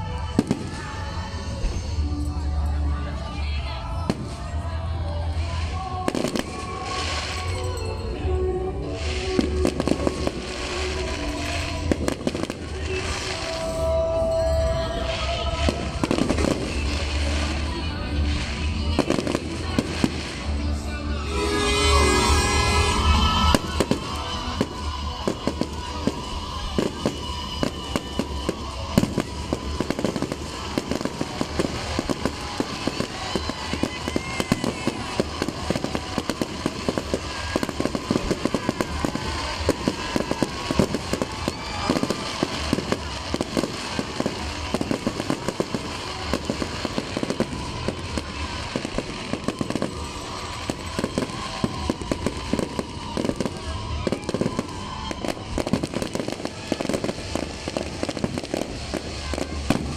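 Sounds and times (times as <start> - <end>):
fireworks bangs and crackles: 0.0 - 8.2, 8.8 - 59.9.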